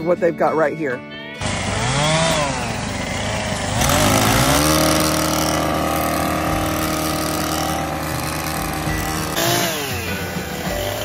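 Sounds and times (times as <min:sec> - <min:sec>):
brush cutter engine revving: 0:01.4 - 0:11.0.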